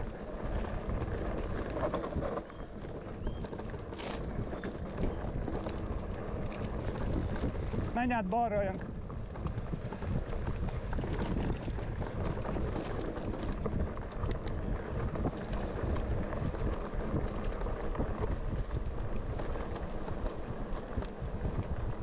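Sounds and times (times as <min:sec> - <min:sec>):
bike rattling over bumps: 0:00.0 - 0:22.0
tyres rumbling on dirt: 0:00.0 - 0:22.0
wind buffeting microphone: 0:00.0 - 0:22.0.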